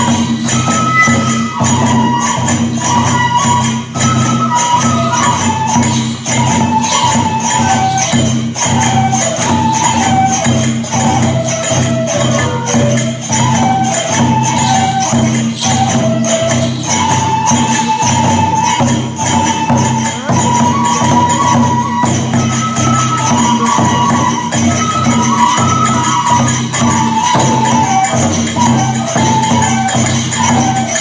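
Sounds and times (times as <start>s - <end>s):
drum beats: 0.0s - 31.0s
jingling metal percussion: 0.0s - 31.0s
wind instrument melody: 0.0s - 31.0s.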